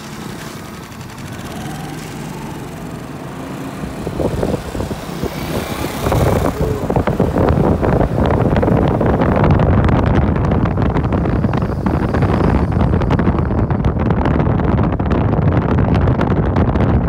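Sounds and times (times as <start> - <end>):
motorcycle accelerating: 0.0 - 17.0
wind buffeting microphone: 0.0 - 17.0.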